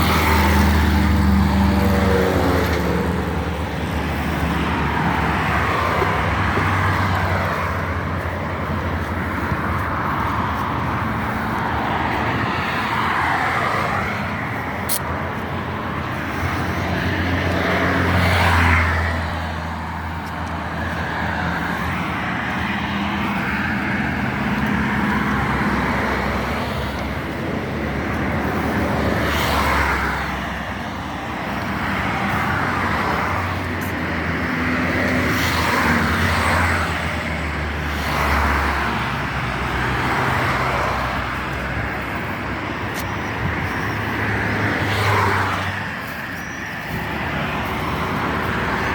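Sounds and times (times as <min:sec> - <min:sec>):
cars passing: 0:00.0 - 0:48.9.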